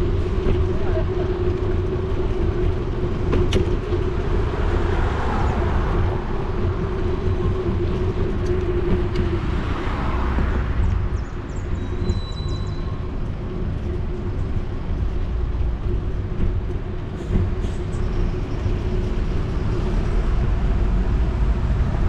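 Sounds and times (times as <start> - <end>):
wind and tyres rumbling: 0.0 - 22.0.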